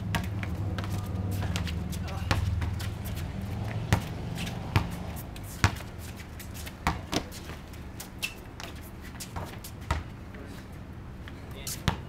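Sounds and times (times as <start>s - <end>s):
basketball bouncing on concrete: 0.0s - 10.2s, 11.8s - 12.0s.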